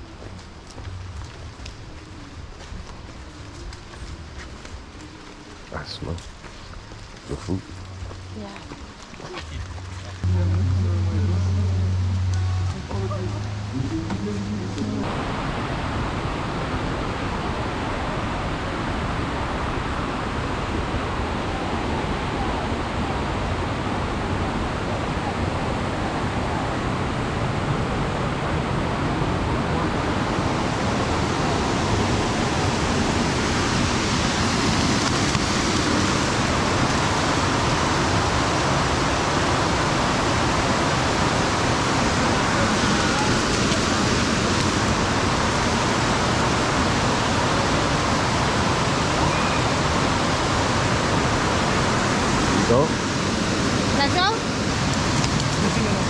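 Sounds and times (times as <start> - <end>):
waterfall rushing water: 0.0 - 56.0.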